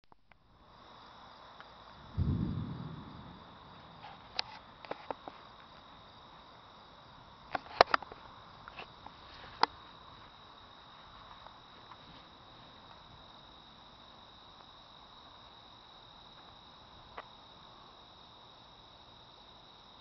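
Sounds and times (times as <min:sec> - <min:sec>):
crickets chirping: 0:00.1 - 0:20.0.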